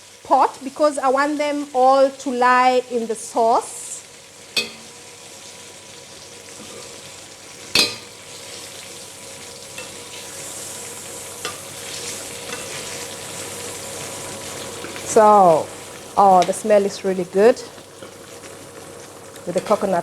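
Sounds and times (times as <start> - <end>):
sauce sizzling in a pot: 0.0 - 20.0.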